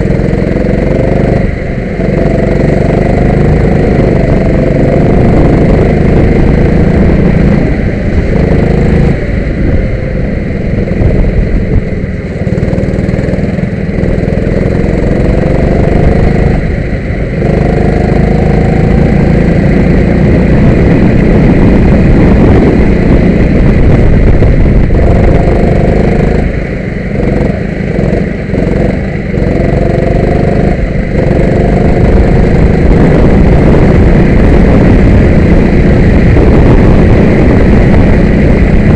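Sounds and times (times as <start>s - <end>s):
kart engine accelerating: 0.0s - 38.9s.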